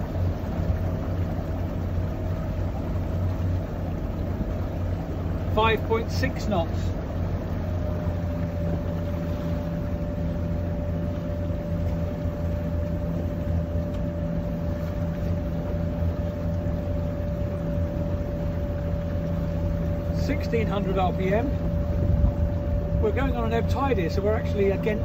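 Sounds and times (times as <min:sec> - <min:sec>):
diesel engine droning with whine: 0:00.0 - 0:25.0.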